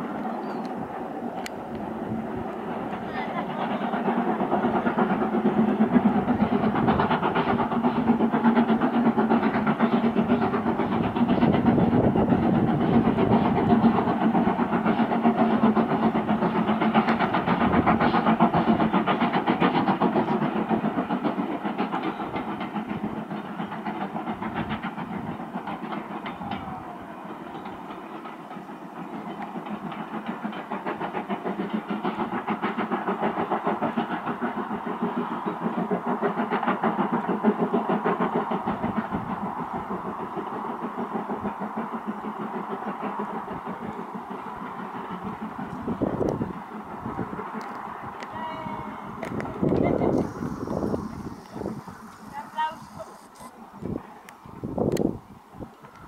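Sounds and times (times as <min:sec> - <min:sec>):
steam locomotive chuffing: 0:00.0 - 0:56.0.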